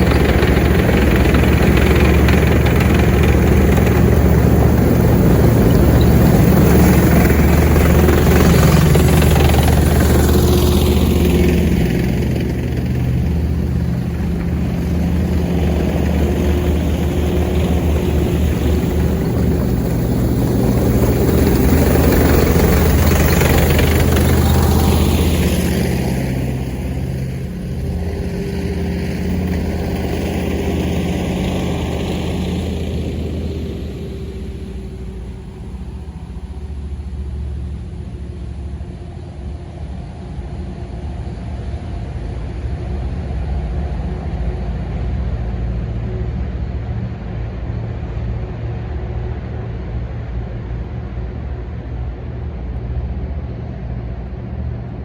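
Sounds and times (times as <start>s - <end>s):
tank engines running: 0.0s - 55.0s.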